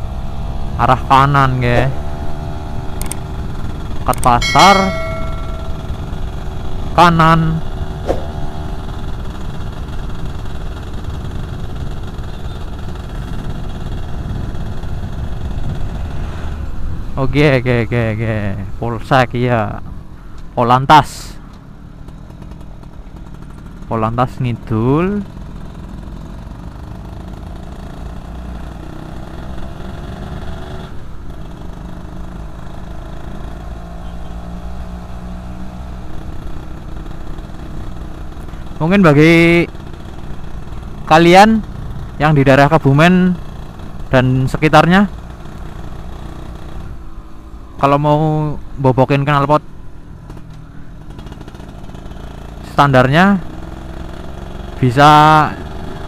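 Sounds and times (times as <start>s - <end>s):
two-stroke motorcycle engine running: 0.0s - 16.0s, 21.8s - 47.6s, 50.0s - 52.7s, 53.4s - 56.0s.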